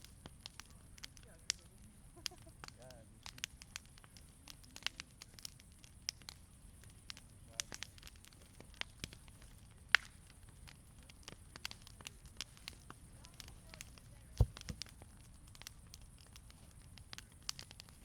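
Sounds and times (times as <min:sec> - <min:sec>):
bonfire crackling: 0:00.0 - 0:18.0
sharp pops from burning wood: 0:00.0 - 0:18.0.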